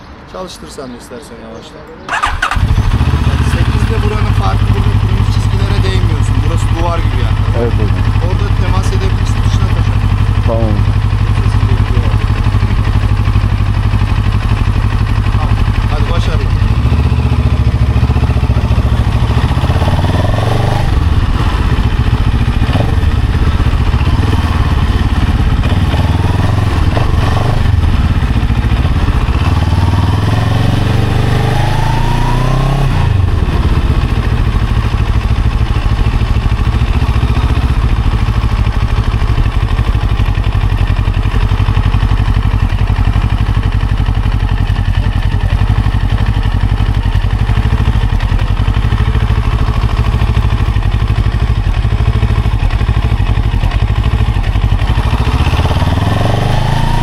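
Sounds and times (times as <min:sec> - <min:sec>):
motorcycle engine revving: 0:02.1 - 0:57.0.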